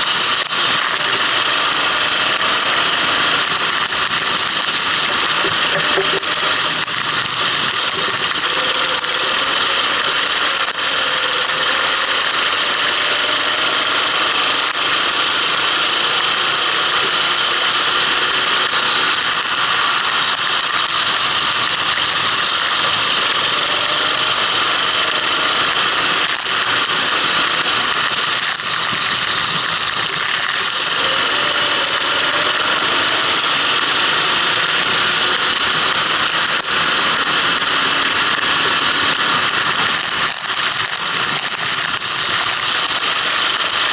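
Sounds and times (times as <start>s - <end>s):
kart engine revving: 0.0s - 43.9s.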